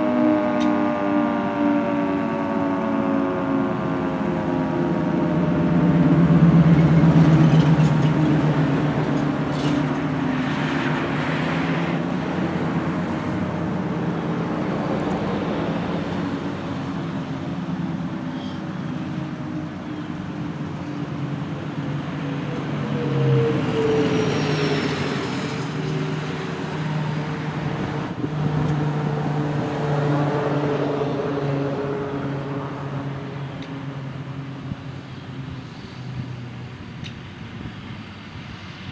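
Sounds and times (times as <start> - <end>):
two-tone warning siren winding down: 0.0 - 34.0.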